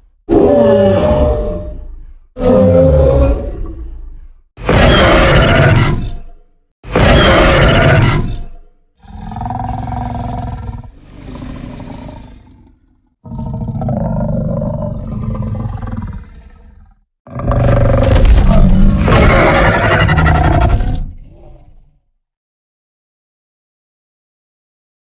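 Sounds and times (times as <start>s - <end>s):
deep growling dinosaur roars: 0.3s - 22.0s.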